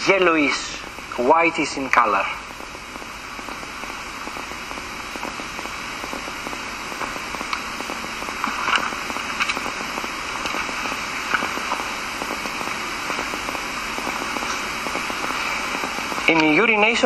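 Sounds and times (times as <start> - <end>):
faint crackles and clicks: 0.0 - 17.0
recording hiss: 0.0 - 17.0.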